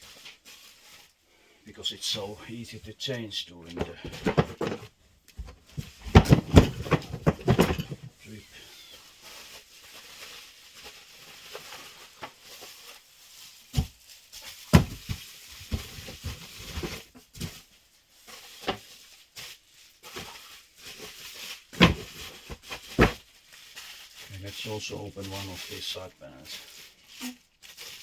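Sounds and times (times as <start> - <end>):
packaging rustling: 0.0 - 1.3, 3.6 - 28.0.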